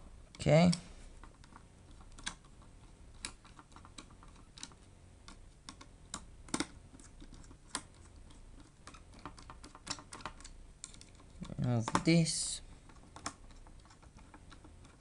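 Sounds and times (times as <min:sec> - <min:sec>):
laptop parts and tools clicking: 0:00.3 - 0:15.0.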